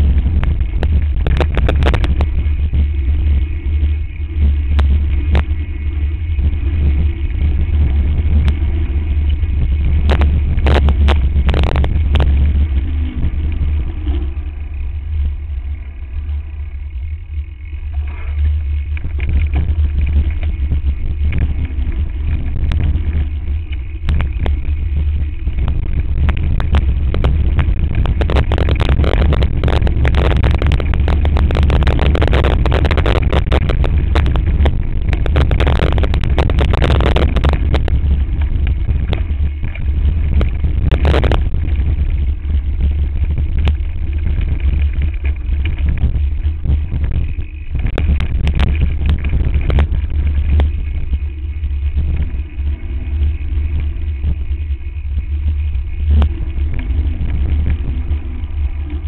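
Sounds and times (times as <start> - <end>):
bike rattling over rocks: 0.0 - 59.0
wind buffeting microphone: 0.0 - 59.0.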